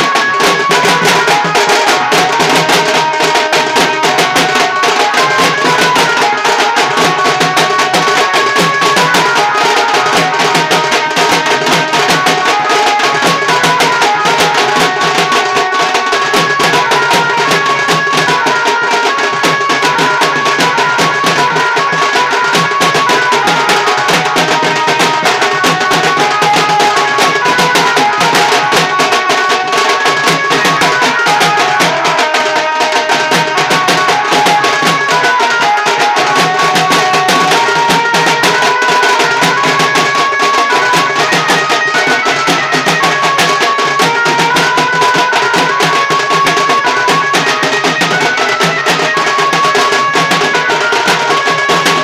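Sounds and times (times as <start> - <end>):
melody over drumming: 0.0 - 52.0
side drums played together: 0.0 - 52.0.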